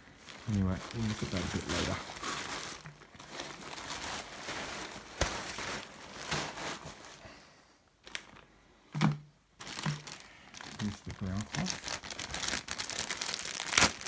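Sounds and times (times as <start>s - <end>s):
tent fabric crinkling: 0.0s - 7.3s, 9.6s - 14.0s.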